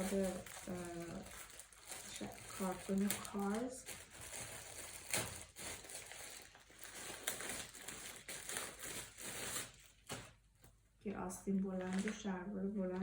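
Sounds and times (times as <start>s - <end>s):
plastic packaging crinkling: 0.0s - 10.7s, 11.6s - 12.3s.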